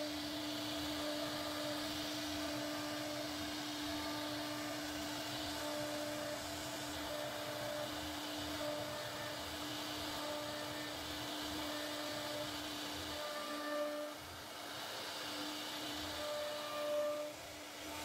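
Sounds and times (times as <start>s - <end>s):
router spindle whine: 0.0s - 18.0s
wood cutting hiss: 0.0s - 18.0s.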